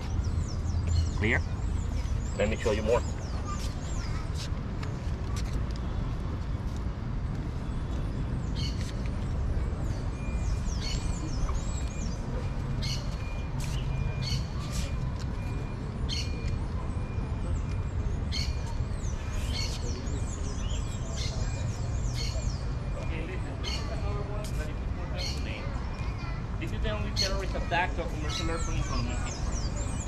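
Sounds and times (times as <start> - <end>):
small birds chirping: 0.0 - 5.5, 8.4 - 30.0.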